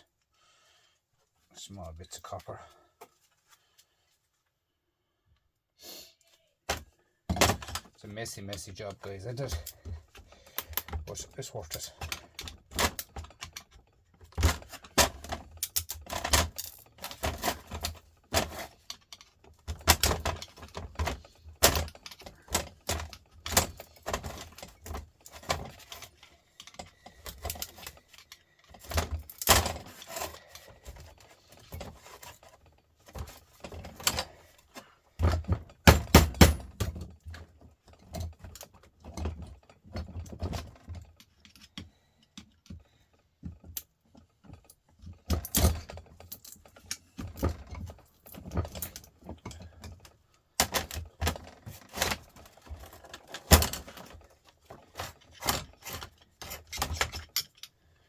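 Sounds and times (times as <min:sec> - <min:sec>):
hand tools clicking and scraping: 0:06.7 - 0:57.8.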